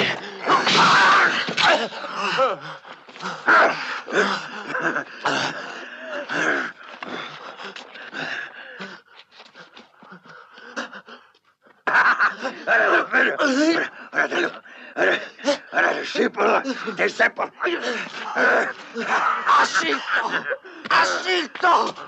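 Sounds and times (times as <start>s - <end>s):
wordless human vocal sounds: 0.0s - 22.0s.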